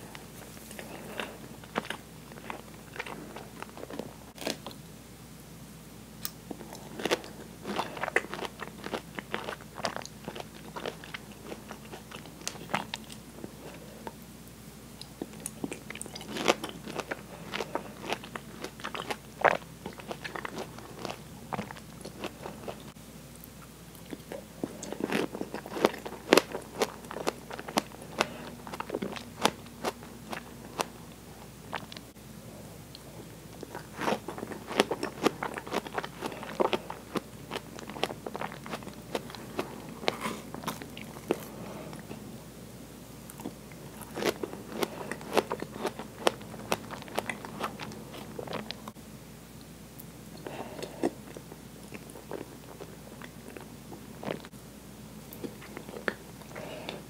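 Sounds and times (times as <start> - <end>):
crunchy wet chewing: 0.0 - 4.8, 6.2 - 14.2, 15.0 - 32.1, 32.9 - 42.2, 43.3 - 49.0, 50.0 - 54.6, 55.3 - 57.0.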